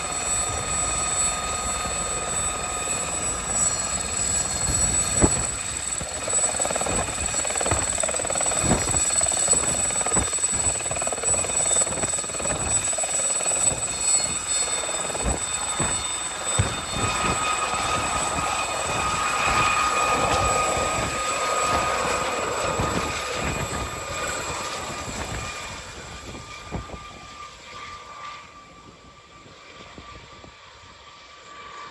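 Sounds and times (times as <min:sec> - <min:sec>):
helicopter rotor noise: 0:00.0 - 0:31.9
helicopter turbine whine: 0:00.0 - 0:31.9.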